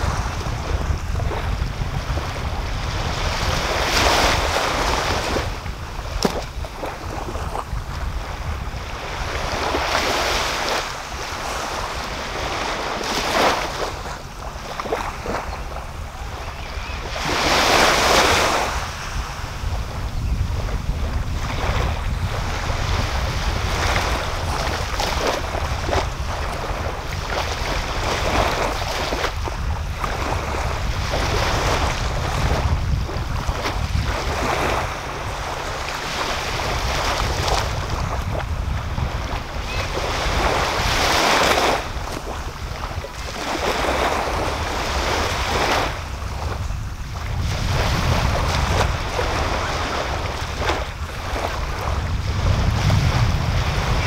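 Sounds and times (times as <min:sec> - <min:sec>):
small waves breaking on beach: 0:00.0 - 0:54.0
wind rumble on microphone: 0:00.0 - 0:54.0.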